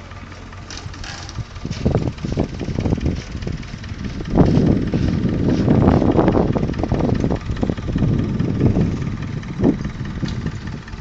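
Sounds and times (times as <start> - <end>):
wind buffeting microphone: 0.8 - 11.0.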